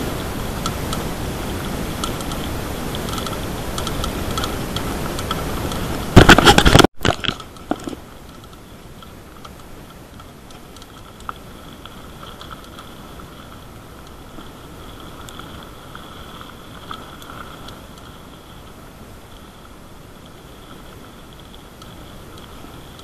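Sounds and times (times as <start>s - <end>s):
faint steady whine: 0.0s - 23.0s
loud crackling rattle: 0.0s - 23.0s
light ticks: 0.2s - 6.0s, 7.3s - 23.0s.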